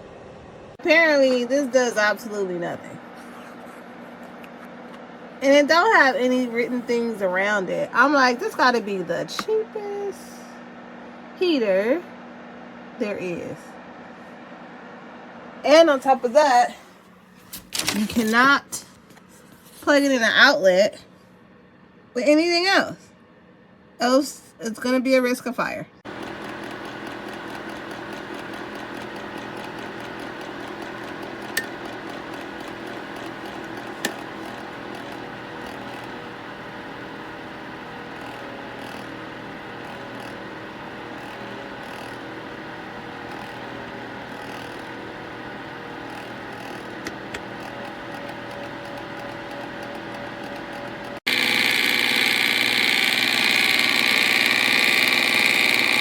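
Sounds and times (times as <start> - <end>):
space heater fan whirring: 0.0 - 23.0, 24.0 - 56.0.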